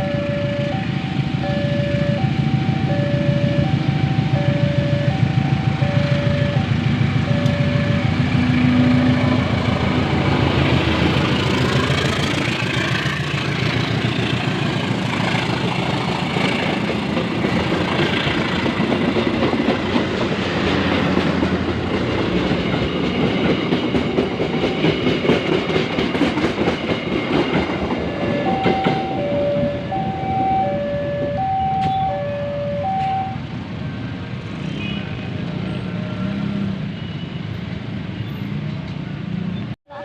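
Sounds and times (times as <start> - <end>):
train wheels rumbling on rails: 0.0 - 32.2.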